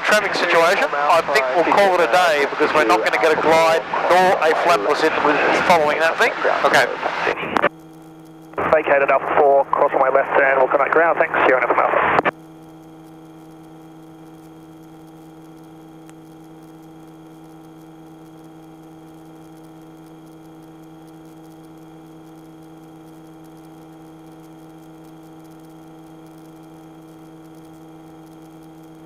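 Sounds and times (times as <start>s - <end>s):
aircraft engine and propeller drone: 0.0s - 29.0s.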